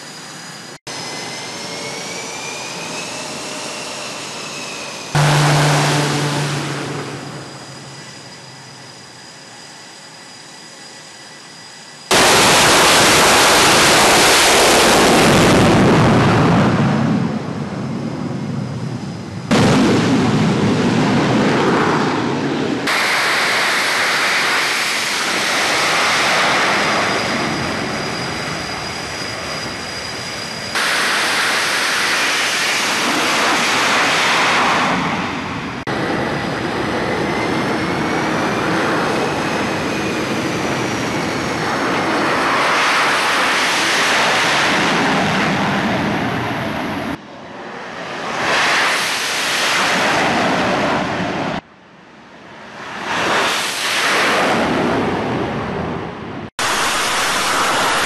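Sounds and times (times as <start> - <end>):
fighter jet engines roaring: 0.0 - 58.0
high engine whine: 0.0 - 58.0.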